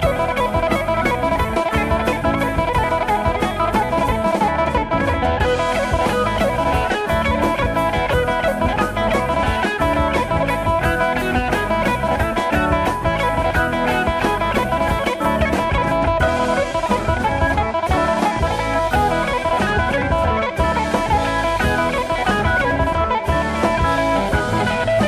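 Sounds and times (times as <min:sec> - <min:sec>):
drum kit steady beat: 0:00.0 - 0:25.0
guitar: 0:00.0 - 0:25.0.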